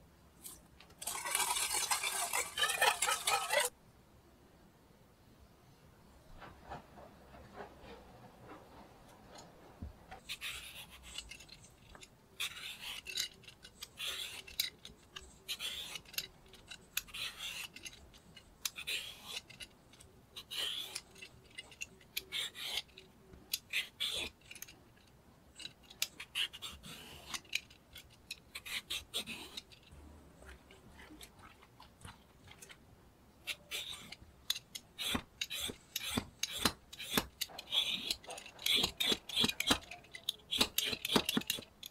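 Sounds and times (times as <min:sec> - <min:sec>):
peeler scraping cucumber: 0:00.4 - 0:03.7, 0:10.1 - 0:32.8, 0:33.4 - 0:41.9.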